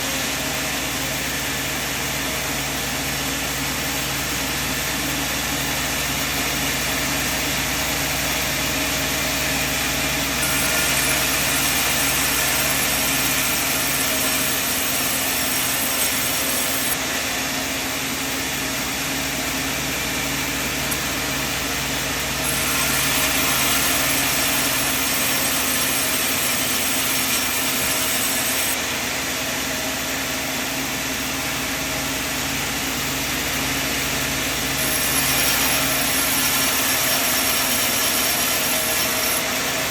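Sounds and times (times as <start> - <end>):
loud hissy machine sound: 0.0 - 39.9
sawmill machine humming: 0.0 - 39.9.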